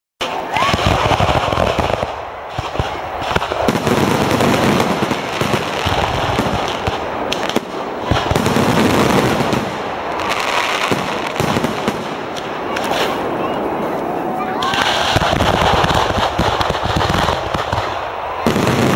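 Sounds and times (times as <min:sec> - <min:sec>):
firework crackle: 0:00.2 - 0:18.9.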